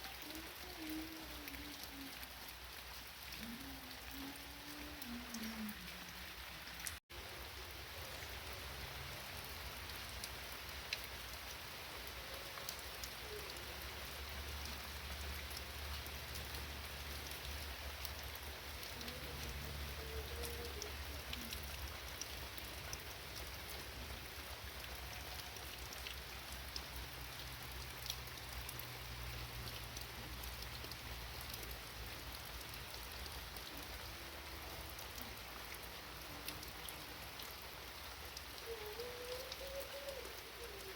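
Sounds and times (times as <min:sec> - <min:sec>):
steady rain falling: 0:00.0 - 0:40.9
single raindrops ticking: 0:07.9 - 0:40.9.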